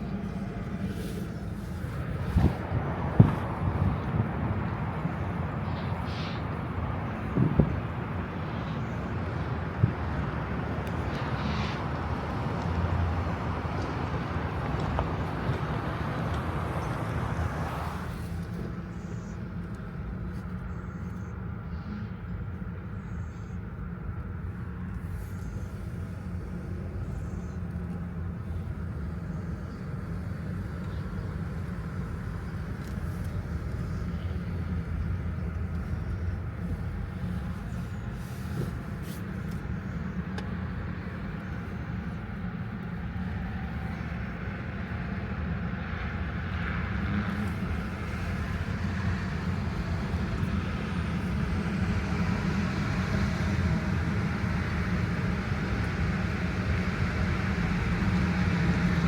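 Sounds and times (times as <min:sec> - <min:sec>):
vehicle road and engine rumble: 0:00.0 - 0:59.0.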